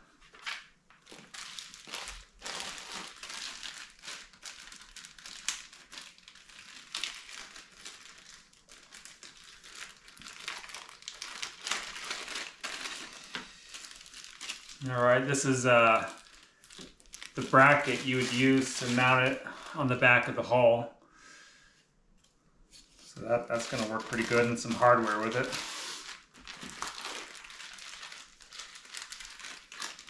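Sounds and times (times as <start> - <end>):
plastic bag crinkling: 0.3 - 20.4, 23.0 - 30.0.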